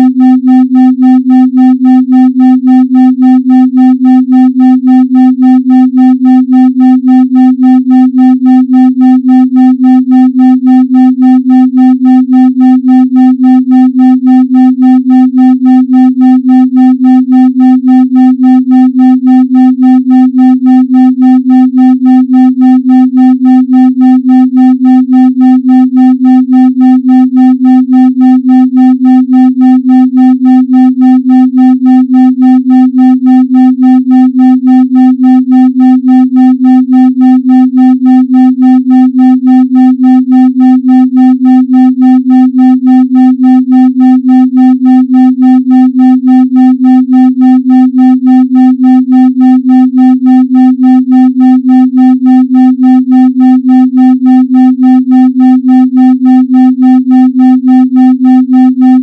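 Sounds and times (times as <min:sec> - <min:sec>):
pulsing electronic tone: 0:00.0 - 0:59.0.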